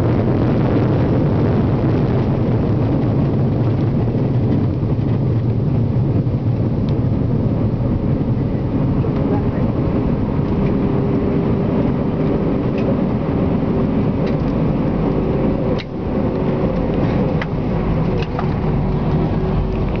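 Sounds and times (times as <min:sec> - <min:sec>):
aircraft cabin engine rumble: 0:00.0 - 0:20.0.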